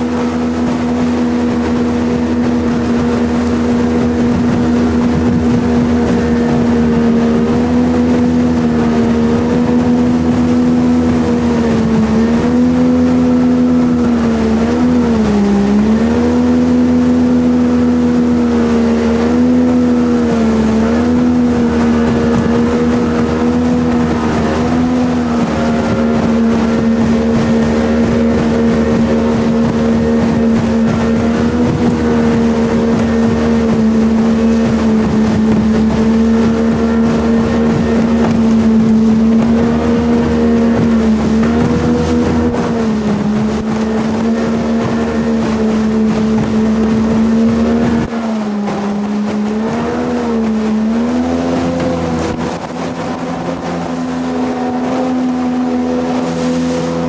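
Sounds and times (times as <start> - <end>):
jet boat engine running: 0.0 - 57.0.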